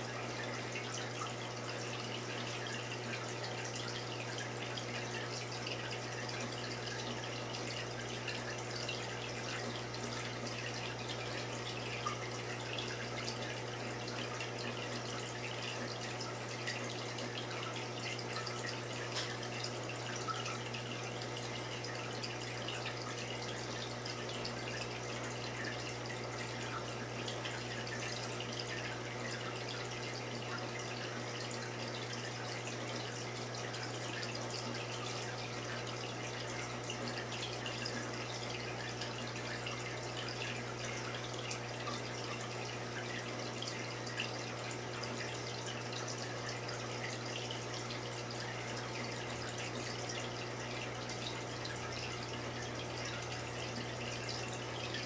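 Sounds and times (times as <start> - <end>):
water trickling and fizzing: 0.0 - 55.0.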